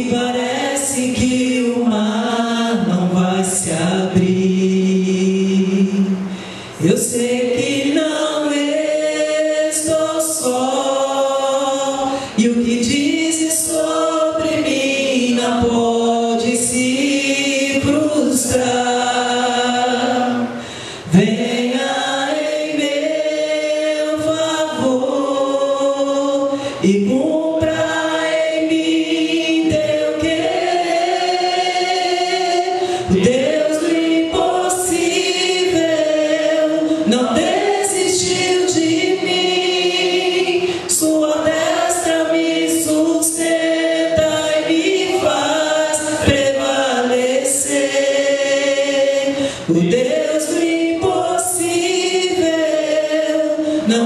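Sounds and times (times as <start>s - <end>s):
woman singing into a microphone: 0.0s - 47.8s
congregation singing: 0.0s - 54.0s.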